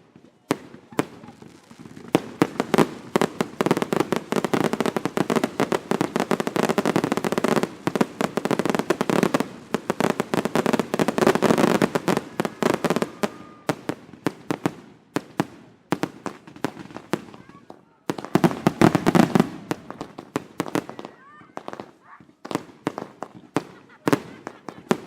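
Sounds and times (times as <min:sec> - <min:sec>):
fireworks bangs: 0:00.0 - 0:25.0
fireworks crackle: 0:00.0 - 0:25.0.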